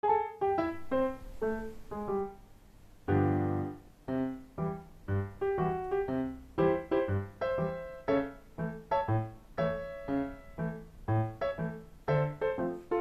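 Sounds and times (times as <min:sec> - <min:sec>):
piano playing light melody: 0:00.0 - 0:13.0.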